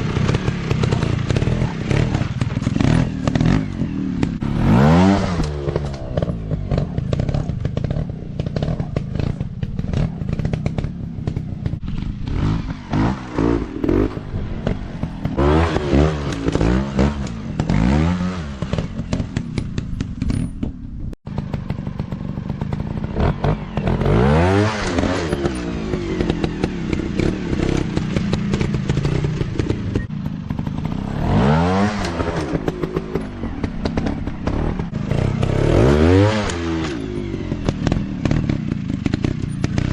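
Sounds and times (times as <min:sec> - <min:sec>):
dirt bike engines revving: 0:00.0 - 0:20.5, 0:21.3 - 0:39.9.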